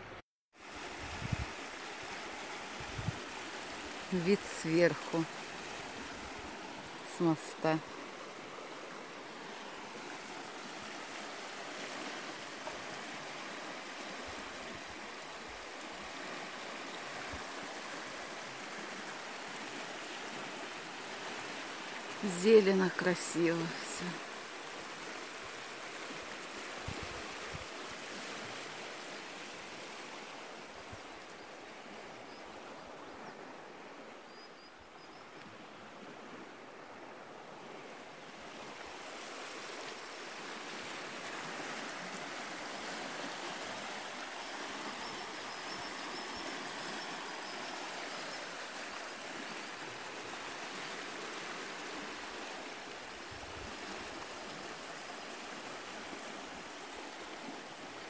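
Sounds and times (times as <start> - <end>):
river rushing over rapids: 0.0 - 32.3, 37.9 - 58.0.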